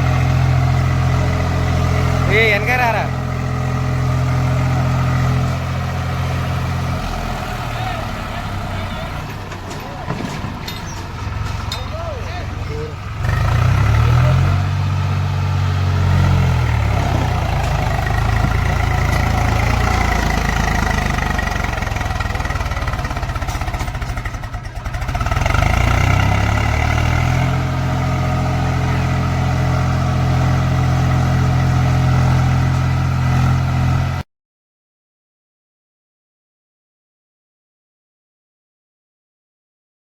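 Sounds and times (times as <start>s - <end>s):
diesel tractor engine running: 0.0s - 34.2s.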